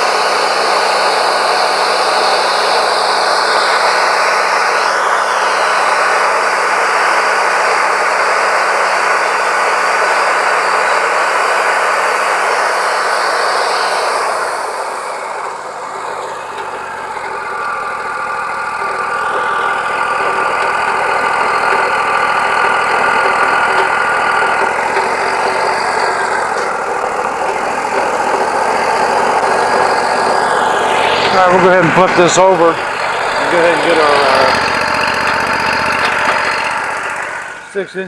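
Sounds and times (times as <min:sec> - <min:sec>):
band sawmill cutting wood: 0:00.0 - 0:38.0
steady saw whine: 0:00.0 - 0:38.0.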